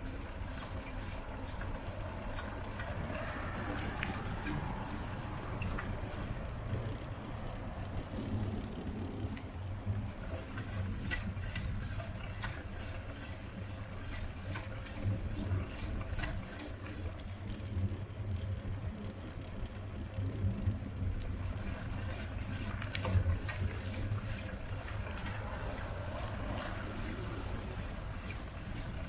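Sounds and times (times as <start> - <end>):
bicycle rattling and clicking: 0.0 - 29.0.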